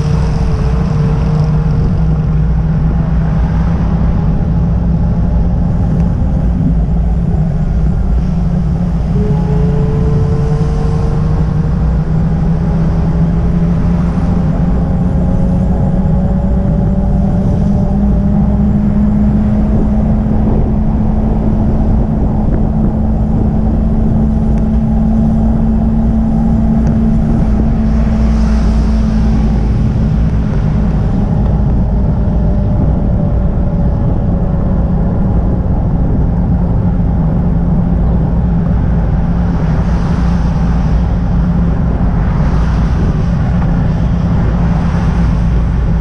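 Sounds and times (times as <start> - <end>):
van passing: 0.0 - 46.0
wind and road rumble: 0.0 - 46.0.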